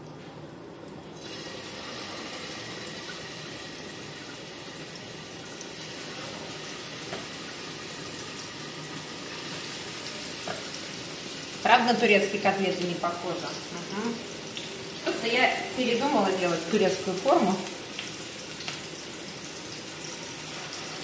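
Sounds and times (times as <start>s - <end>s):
patties sizzling in oil: 1.2s - 21.0s.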